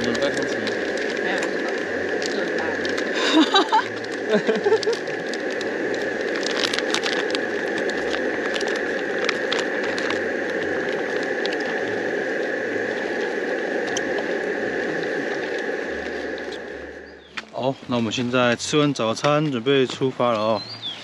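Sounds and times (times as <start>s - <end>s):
broth bubbling: 0.0s - 17.8s
camping stove burner hissing: 0.0s - 21.0s.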